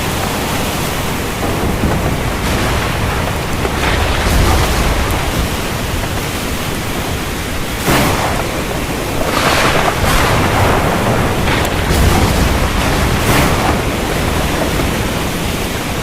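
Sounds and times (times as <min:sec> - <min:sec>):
heavy rain: 0:00.0 - 0:16.0
thunder rumble: 0:00.0 - 0:16.0.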